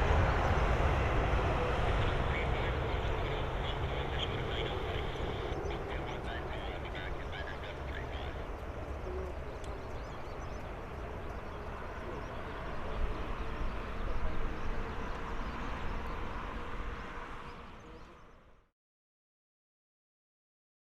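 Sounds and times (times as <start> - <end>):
jet engines rumbling: 0.0 - 18.5.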